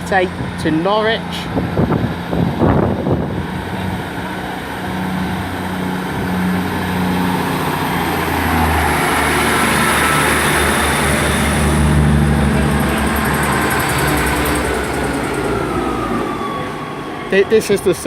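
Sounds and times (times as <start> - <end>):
diesel train engines running: 0.0 - 18.0.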